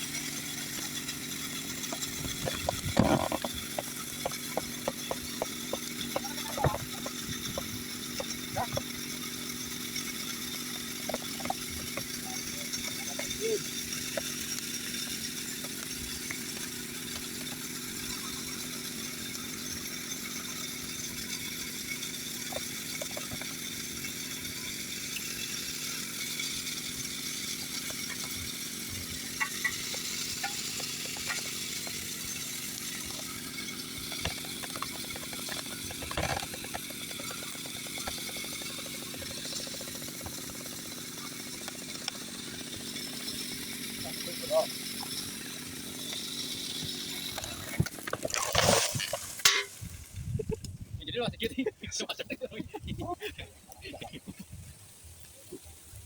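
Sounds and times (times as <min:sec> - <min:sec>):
chainsaw engine running: 0:00.0 - 0:56.0.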